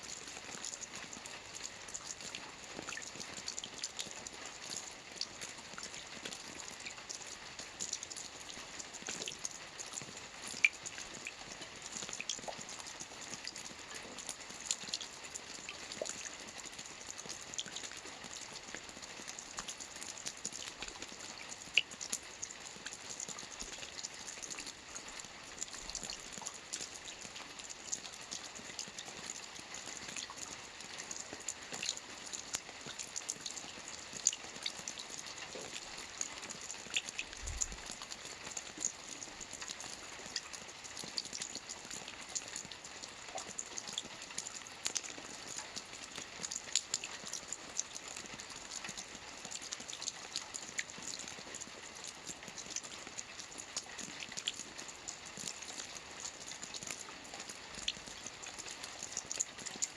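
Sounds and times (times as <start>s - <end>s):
rain hissing on a lake: 0.0s - 59.9s
sharp drip ticks: 0.0s - 59.9s.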